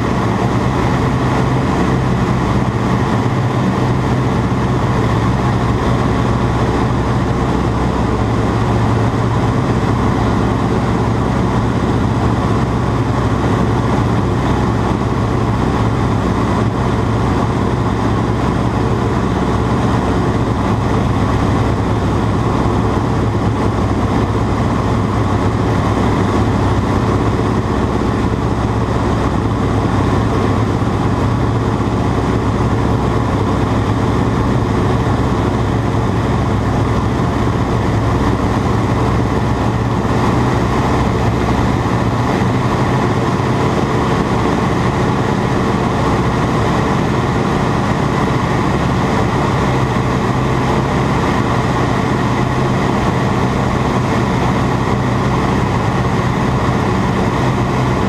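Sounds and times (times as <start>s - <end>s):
biplane engine droning: 0.0s - 58.0s.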